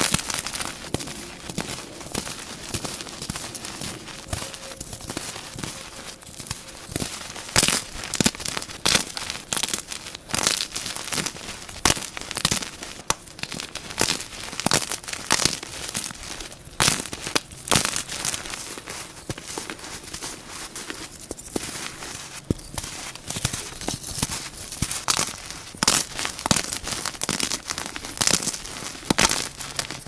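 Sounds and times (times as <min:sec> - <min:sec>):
chalk crunching in hand: 0:00.0 - 0:30.0
sharp chalk cracks: 0:00.0 - 0:30.0.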